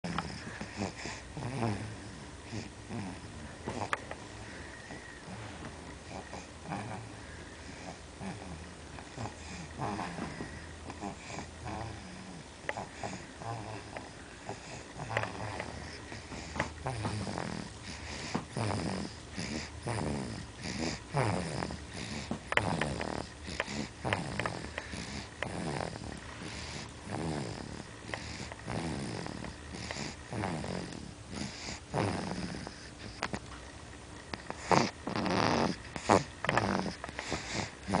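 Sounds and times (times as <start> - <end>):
baby snoring: 0.0 - 33.4, 34.3 - 38.0.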